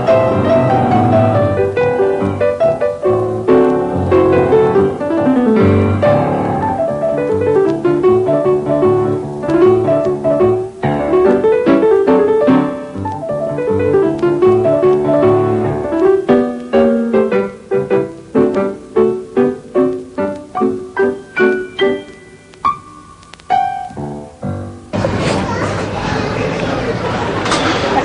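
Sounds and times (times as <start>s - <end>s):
piano music: 0.0s - 25.6s.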